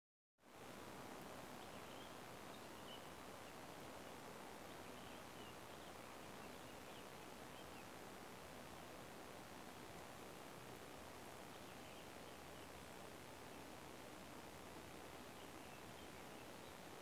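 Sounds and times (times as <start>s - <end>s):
faint steady hiss: 0.4s - 17.0s.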